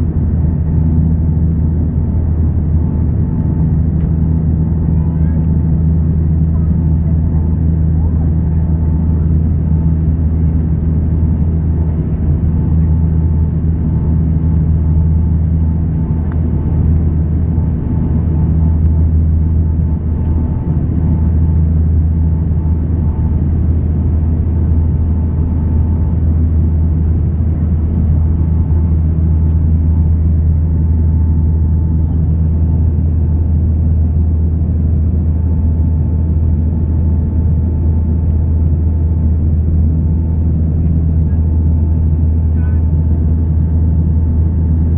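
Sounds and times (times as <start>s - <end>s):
turboprop engines droning in cabin: 0.0s - 44.9s.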